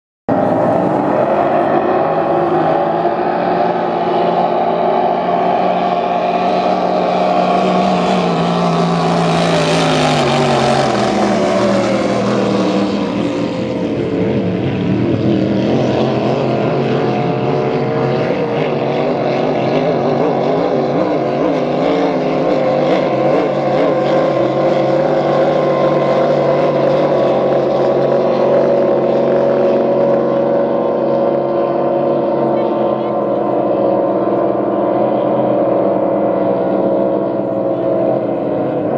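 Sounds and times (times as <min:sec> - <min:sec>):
speedboat engines droning: 0:00.3 - 0:38.9.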